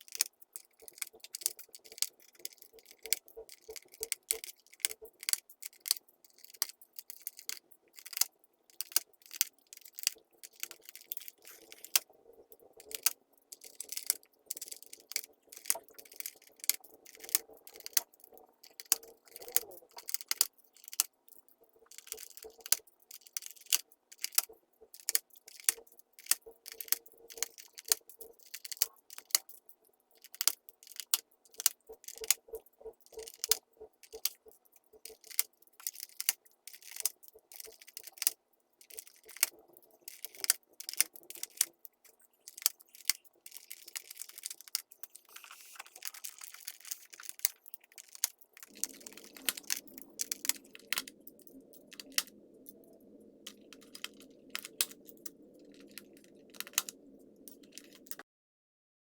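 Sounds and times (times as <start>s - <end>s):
scratchy rubbing: 0.0s - 52.3s.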